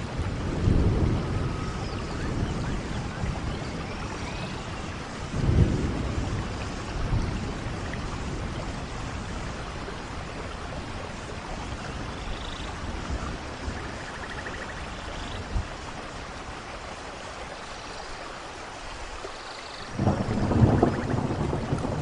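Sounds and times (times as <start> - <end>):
thunder rumbling: 0.0 - 15.7, 19.9 - 22.0
steady rain: 0.0 - 22.0.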